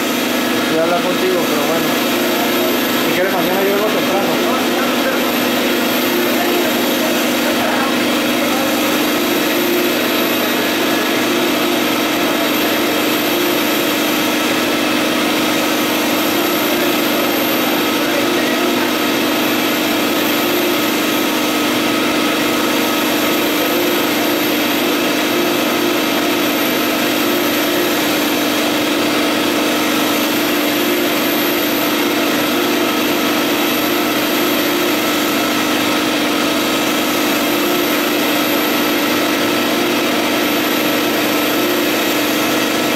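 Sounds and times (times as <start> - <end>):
printer machine drone: 0.0 - 42.9.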